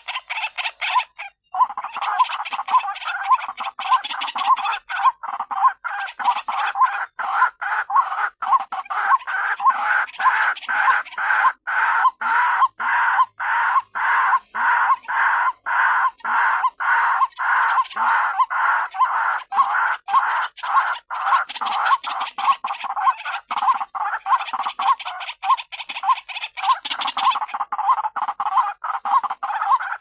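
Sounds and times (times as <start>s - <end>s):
waterhen harsh repeated call: 0.0s - 30.0s.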